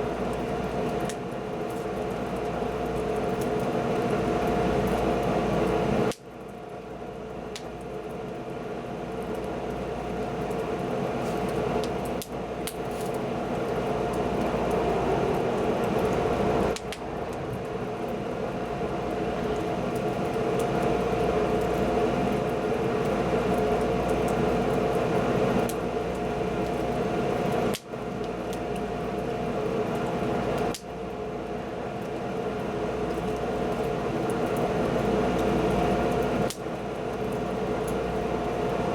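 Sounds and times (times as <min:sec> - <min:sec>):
fire crackles: 0:00.0 - 0:38.9
wood fire rushing: 0:00.0 - 0:38.9.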